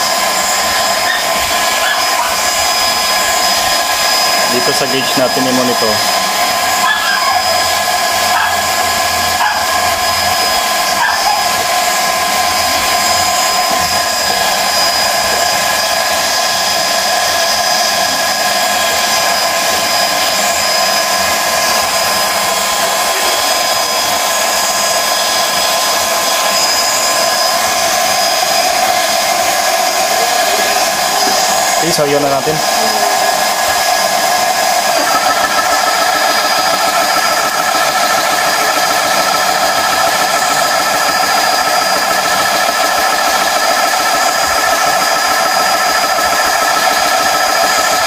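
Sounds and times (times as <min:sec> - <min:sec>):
air compressor whining: 0:00.0 - 0:48.0.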